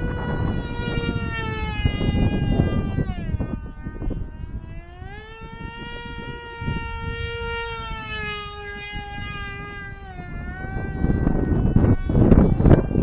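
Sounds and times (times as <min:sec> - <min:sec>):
electric motor and propeller whining: 0:00.0 - 0:13.0
wind rumble on microphone: 0:00.0 - 0:13.0.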